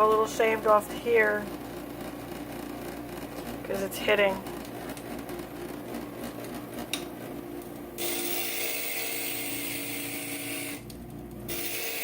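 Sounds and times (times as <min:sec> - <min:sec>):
grinder motor hum: 0:00.0 - 0:12.0.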